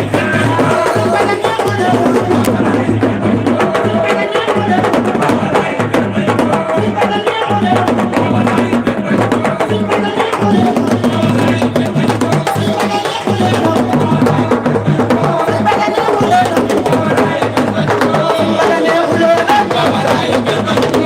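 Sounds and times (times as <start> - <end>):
music with fast drumming: 0.0 - 21.0.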